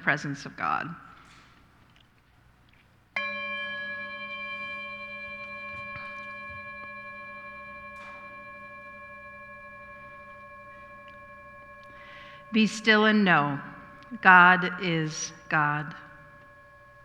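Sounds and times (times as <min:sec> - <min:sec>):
meditation bell ringing: 0:03.2 - 0:17.0.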